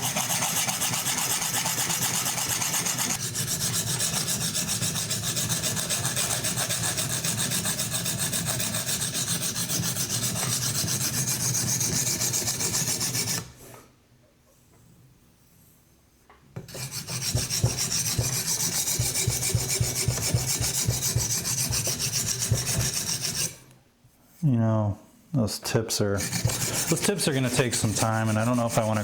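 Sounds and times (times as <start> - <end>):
sharpening stone rasping on knife: 0.0 - 13.5, 16.7 - 23.6, 26.2 - 29.0.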